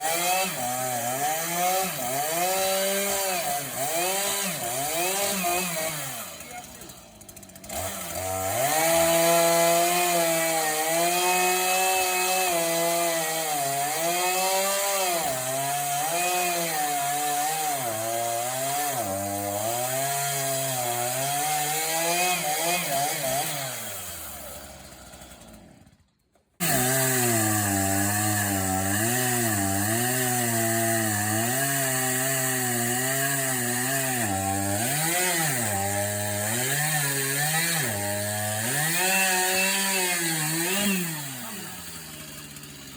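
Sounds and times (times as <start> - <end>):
chainsaw cutting tree trunk: 0.0 - 42.9.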